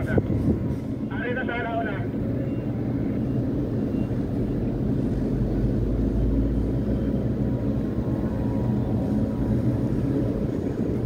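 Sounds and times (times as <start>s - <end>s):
crane machinery drone: 0.0s - 11.0s.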